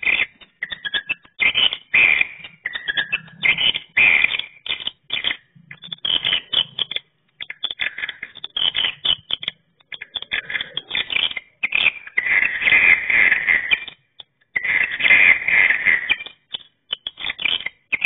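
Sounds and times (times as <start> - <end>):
swiftlet chirps and twitters: 0.0 - 18.0.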